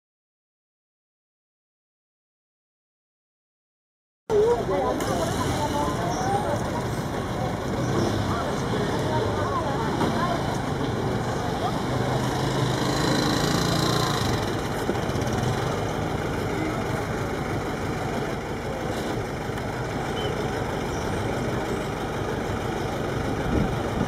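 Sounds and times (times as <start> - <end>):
street noise: 4.3 - 24.0
vehicle engine idling: 4.3 - 24.0.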